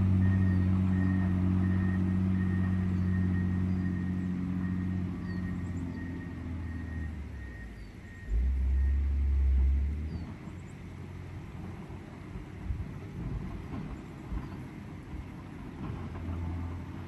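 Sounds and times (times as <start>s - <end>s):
deep engine rumble: 0.0s - 17.0s
diesel engine humming: 0.0s - 17.0s.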